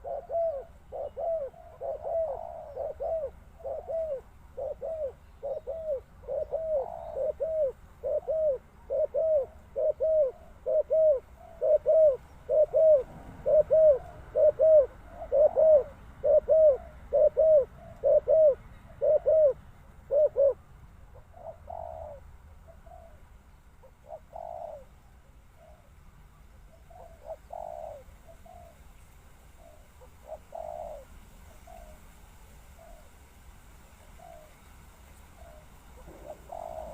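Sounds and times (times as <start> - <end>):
dove cooing: 0.0 - 26.0, 26.6 - 28.8, 29.6 - 32.1, 32.7 - 33.2, 34.0 - 34.6, 35.3 - 36.9.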